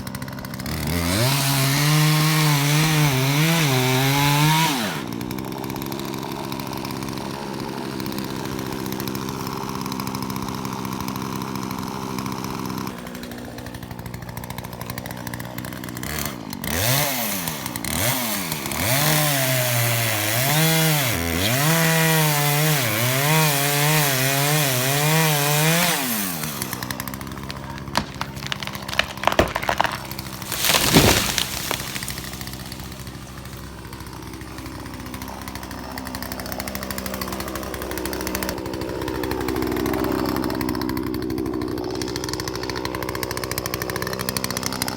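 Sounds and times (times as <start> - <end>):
chainsaw revving: 0.0 - 44.9.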